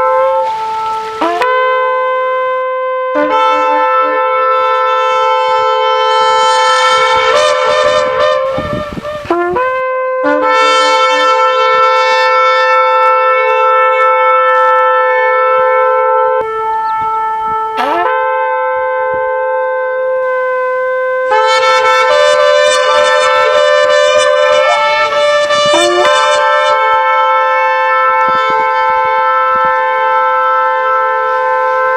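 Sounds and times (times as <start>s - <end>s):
second horn at different pitch: 0.0s - 31.9s
shofar blasts: 0.0s - 31.9s.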